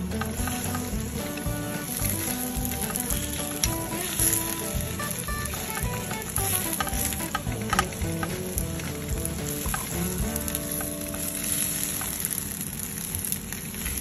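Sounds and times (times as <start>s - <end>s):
light background music: 0.0s - 12.2s.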